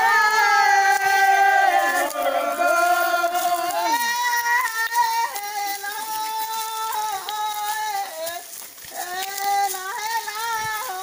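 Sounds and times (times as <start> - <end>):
high voice singing slow melody: 0.0 - 11.0.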